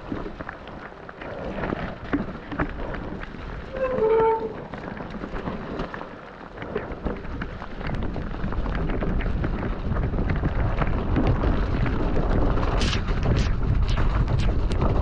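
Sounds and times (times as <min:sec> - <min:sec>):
bike tyres over mud: 0:00.0 - 0:15.0
wind on microphone: 0:00.0 - 0:15.0.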